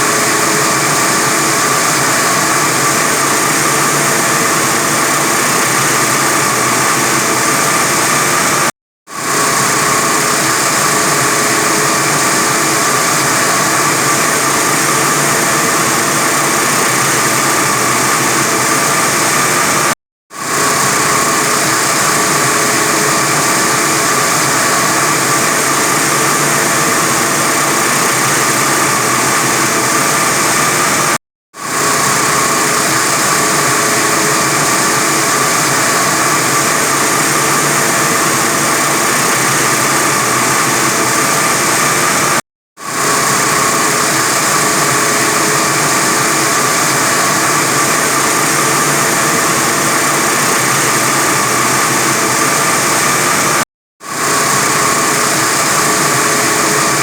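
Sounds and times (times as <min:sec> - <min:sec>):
wire saw cutting concrete: 0:00.0 - 0:57.0.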